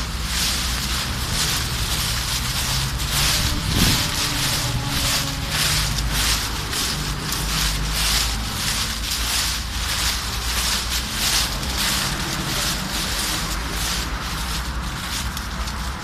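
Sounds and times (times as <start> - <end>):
footsteps crunching through dry leaves: 0.0 - 16.0
steady low rumble: 0.0 - 16.0.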